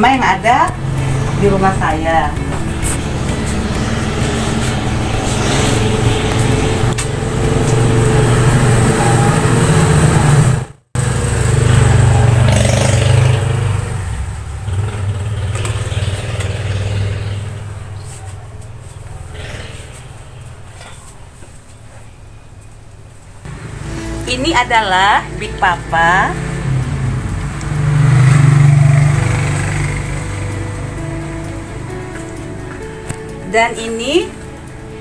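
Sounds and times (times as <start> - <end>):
vehicle engine humming: 0.0 - 21.8, 23.3 - 35.0.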